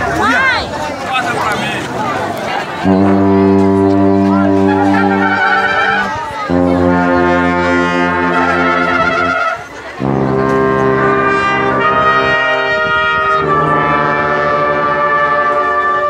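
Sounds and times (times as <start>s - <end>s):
brass-like horn notes: 2.7s - 16.0s.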